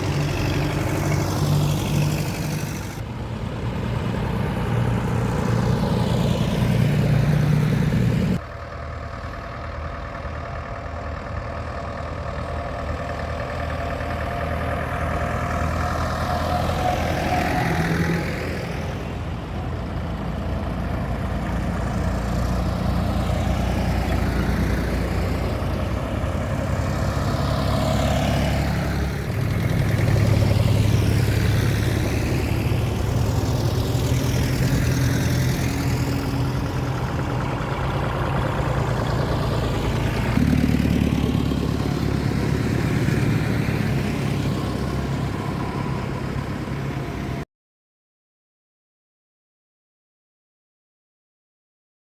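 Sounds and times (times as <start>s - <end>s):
tractors driving past: 0.0s - 47.4s.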